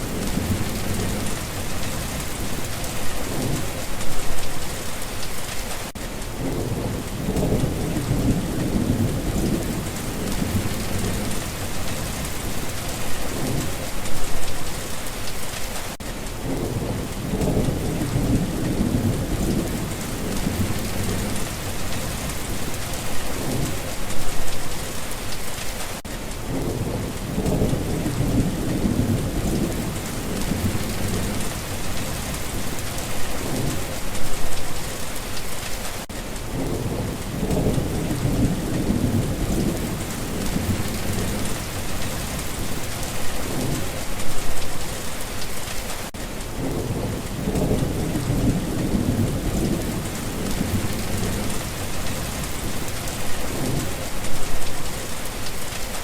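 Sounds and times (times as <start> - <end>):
low rolling thunder: 0.0 - 4.8, 6.3 - 14.6, 16.4 - 24.7, 26.4 - 34.7, 36.4 - 44.9, 46.4 - 55.0
steady rain: 0.0 - 56.0.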